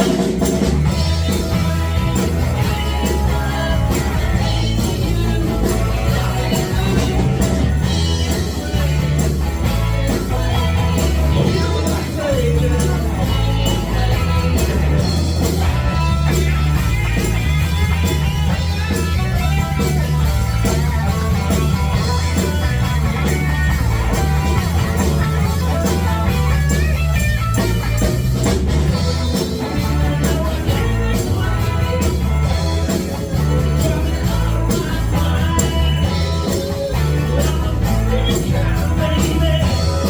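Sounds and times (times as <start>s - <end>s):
bass line: 0.0s - 40.0s
drum kit: 0.0s - 40.0s
guitar: 0.0s - 40.0s.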